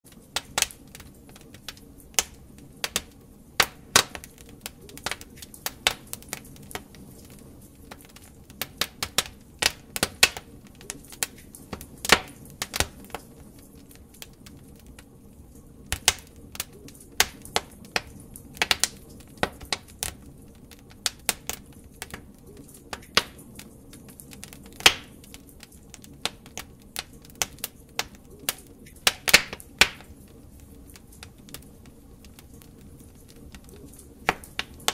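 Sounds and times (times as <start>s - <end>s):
wood fire crackling: 0.0s - 34.9s
low rush of flame: 0.1s - 34.9s
logs popping and snapping: 0.4s - 15.1s, 15.9s - 34.9s.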